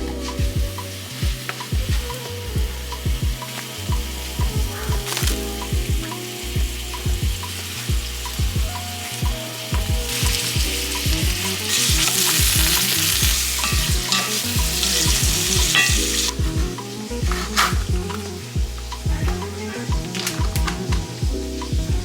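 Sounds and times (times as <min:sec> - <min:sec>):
food sizzling in a pan: 0:00.0 - 0:21.7
background music with beat: 0:00.0 - 0:22.0.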